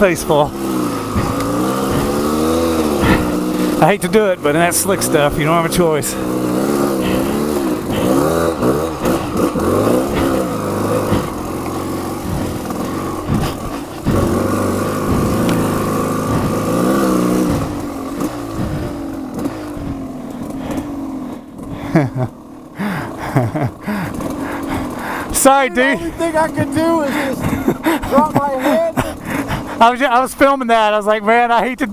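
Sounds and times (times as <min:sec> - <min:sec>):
motorcycle engine revving: 0:00.0 - 0:31.9
wheel spinning through mud: 0:00.0 - 0:31.9.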